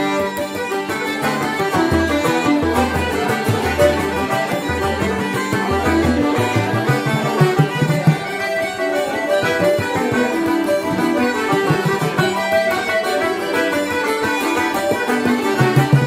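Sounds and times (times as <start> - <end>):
banjo: 0.0 - 16.0
bouzouki: 0.0 - 16.0
button accordion: 0.0 - 16.0.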